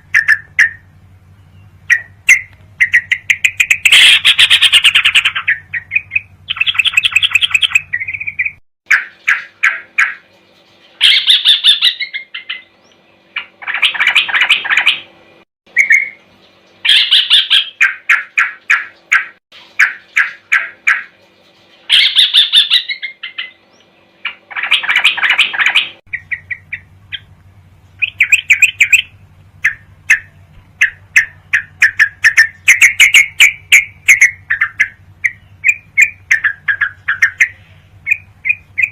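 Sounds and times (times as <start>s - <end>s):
bulbul chattering song: 0.0s - 38.9s
faint low hum: 0.0s - 38.9s.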